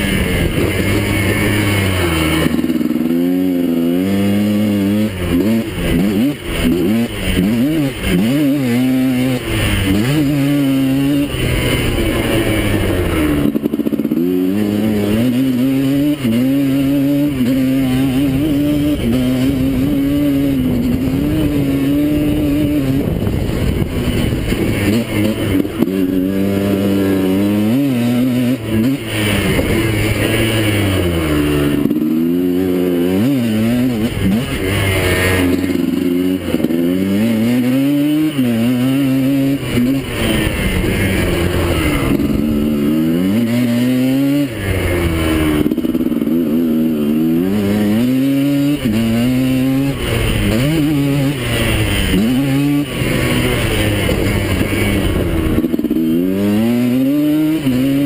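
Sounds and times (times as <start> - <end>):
quad bike engine revving: 0.0 - 58.0.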